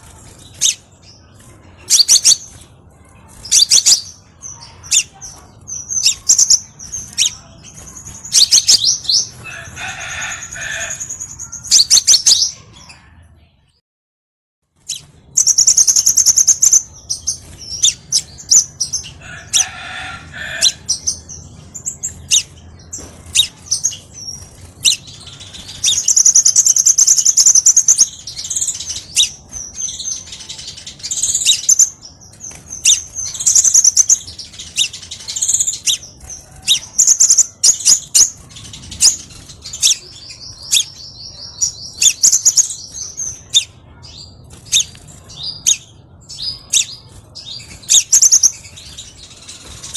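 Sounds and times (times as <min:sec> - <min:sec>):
bird chittering and chirping: 0:00.0 - 0:13.1, 0:14.8 - 0:49.9.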